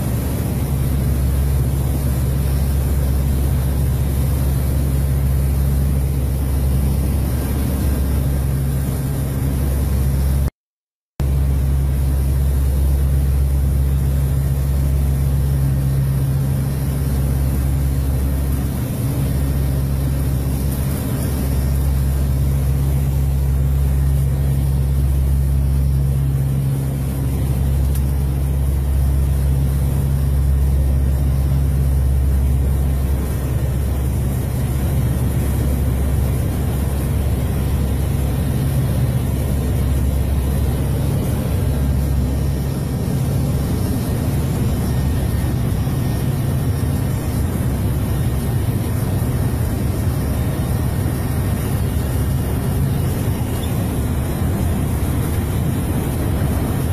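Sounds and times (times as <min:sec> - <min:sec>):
aircraft engines droning: 0:00.0 - 0:10.5, 0:11.2 - 0:56.9.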